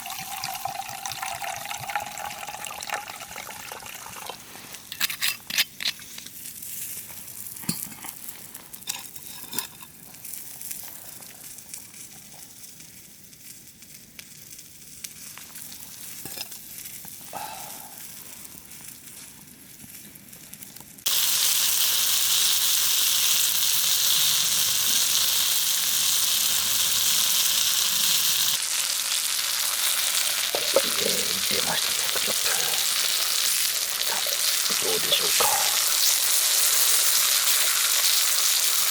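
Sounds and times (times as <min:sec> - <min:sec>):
food sizzling in a hot pan: 0:00.0 - 0:19.9, 0:21.0 - 0:38.9.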